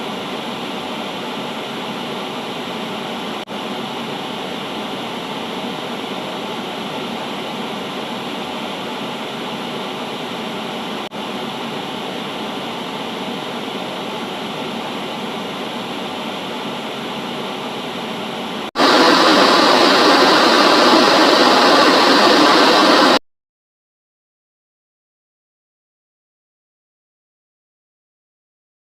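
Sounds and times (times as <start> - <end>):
static hiss: 0.0 - 23.2.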